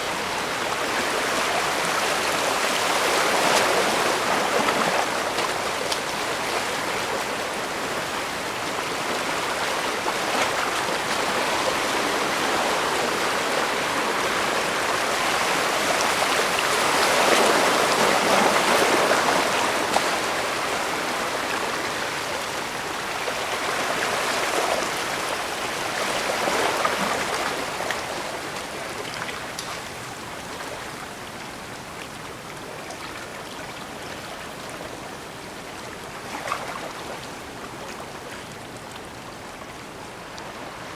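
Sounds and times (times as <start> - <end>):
small waves splashing on shore: 0.0 - 40.9.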